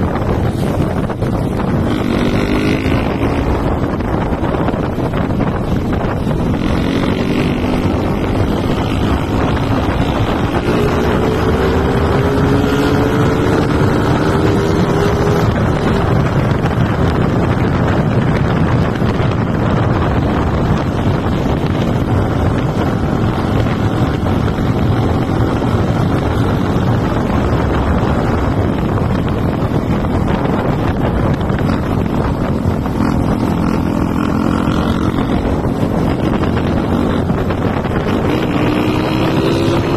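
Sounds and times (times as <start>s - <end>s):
low rumble: 0.0s - 39.9s
wind buffeting microphone: 0.0s - 39.9s.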